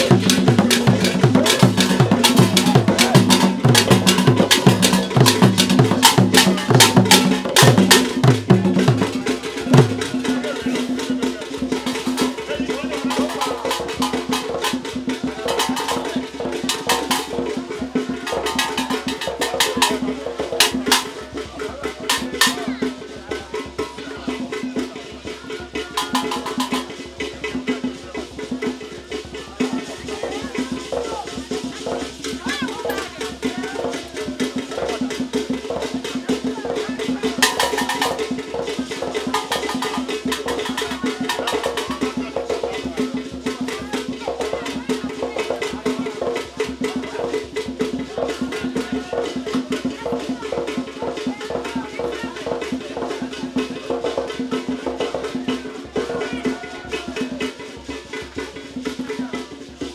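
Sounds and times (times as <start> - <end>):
hand drums beaten fast: 0.0 - 59.9
voices: 0.0 - 59.9.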